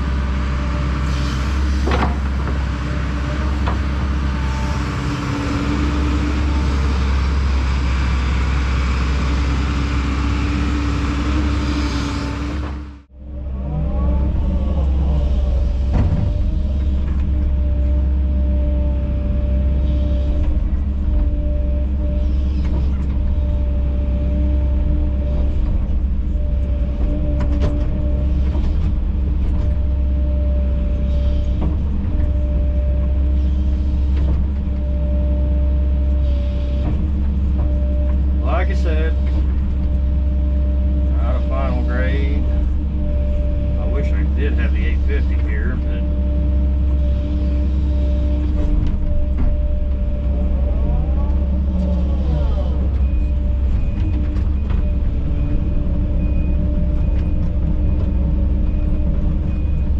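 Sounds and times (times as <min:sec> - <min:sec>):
heavy diesel machine running: 0:00.0 - 0:59.9
steady whine: 0:00.0 - 0:59.9.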